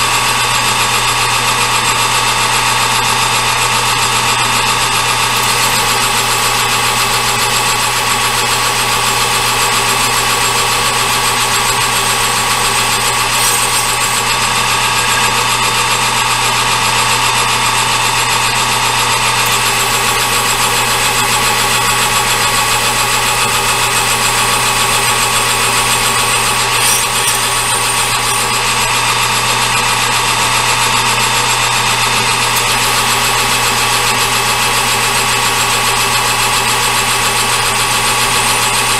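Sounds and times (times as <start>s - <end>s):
metal lathe motor whine: 0.0s - 38.9s.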